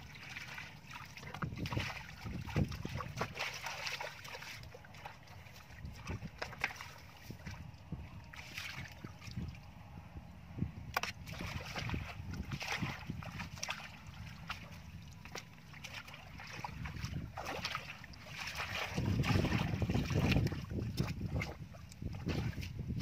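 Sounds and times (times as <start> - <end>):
small splashes and clicks: 0.0 - 7.6, 8.2 - 9.6, 10.9 - 22.8
water and wet sand sloshing: 0.0 - 9.8, 10.9 - 23.0
wind on microphone: 0.0 - 23.0.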